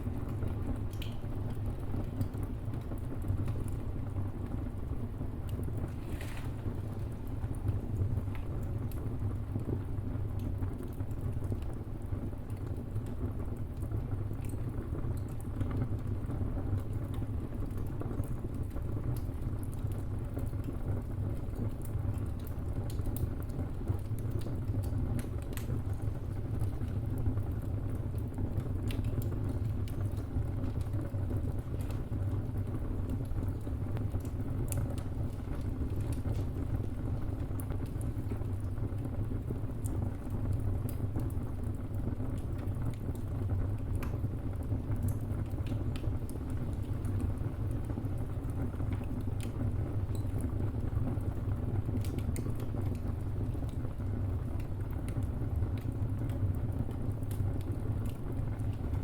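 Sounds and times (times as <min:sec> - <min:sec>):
fire low rumble: 0:00.0 - 0:59.0
wood fire crackling and popping: 0:00.0 - 0:59.0.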